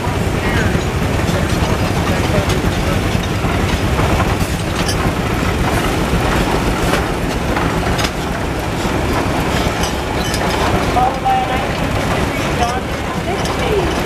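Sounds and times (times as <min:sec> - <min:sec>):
metal clanks: 0:00.0 - 0:14.0
steam traction engine running: 0:00.0 - 0:14.0.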